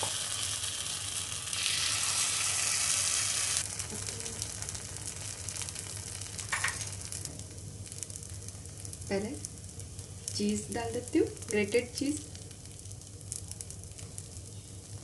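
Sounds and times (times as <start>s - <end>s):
batter sizzling in a pan: 0.0s - 15.0s.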